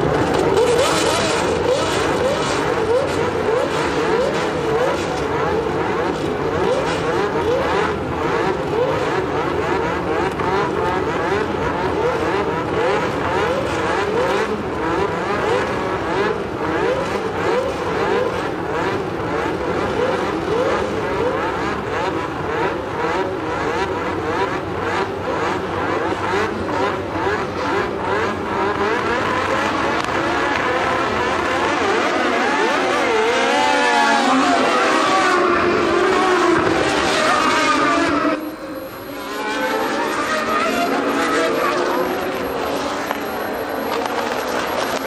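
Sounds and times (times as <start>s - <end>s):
racing car engines revving: 0.0s - 45.0s.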